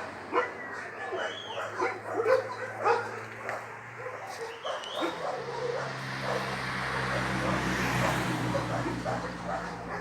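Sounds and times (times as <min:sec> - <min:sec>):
dogs barking and yipping: 0:00.0 - 0:10.0.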